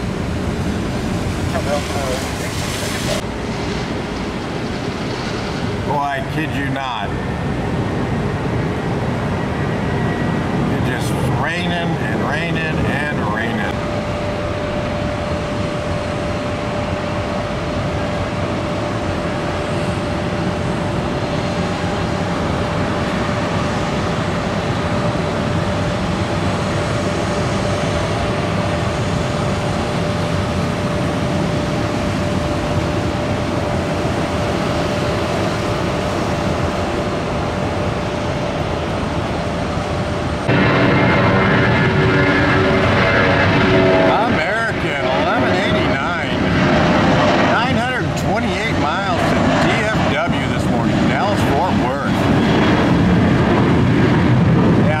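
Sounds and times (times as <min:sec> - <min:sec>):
jet airliner engine whine: 0:00.0 - 0:55.0.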